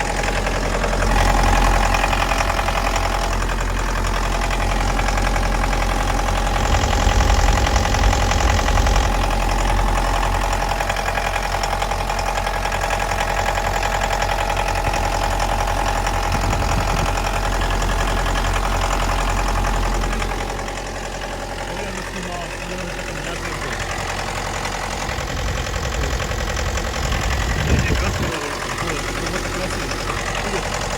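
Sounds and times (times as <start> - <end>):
diesel engine idling with knock: 0.0 - 30.9.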